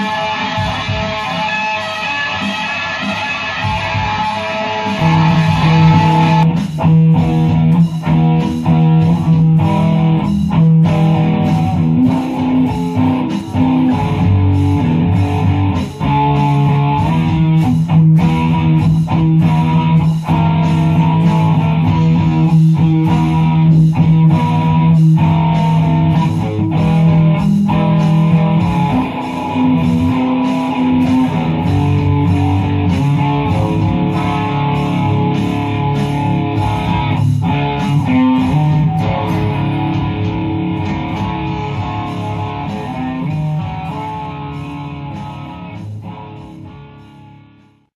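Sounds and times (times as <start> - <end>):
electric guitar holding notes: 0.0 - 47.9
steady beat: 0.0 - 47.9.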